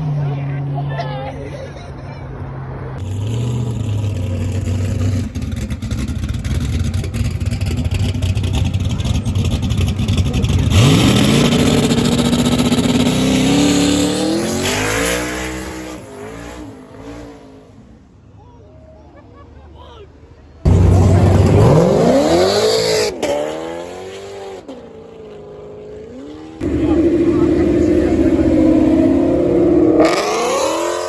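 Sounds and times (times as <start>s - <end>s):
car engine accelerating: 2.3s - 18.0s, 20.6s - 31.0s.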